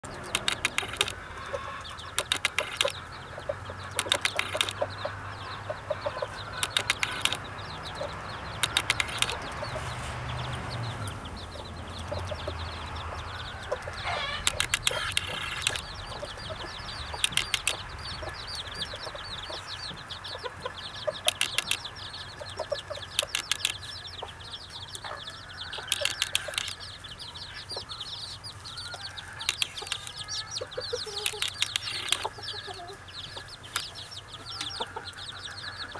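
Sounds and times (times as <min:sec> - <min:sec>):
chicks peeping: 0:00.0 - 0:35.9
hen clucking: 0:00.0 - 0:35.9.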